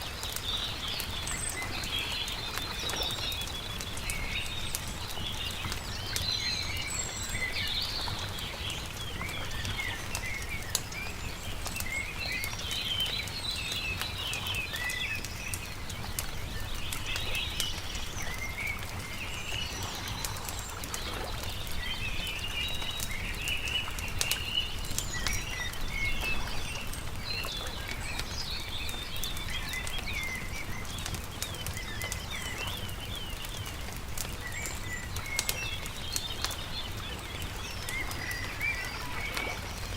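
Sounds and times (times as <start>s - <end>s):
campfire crackling: 0.0s - 39.9s
songbirds chirping and twittering: 0.0s - 39.9s.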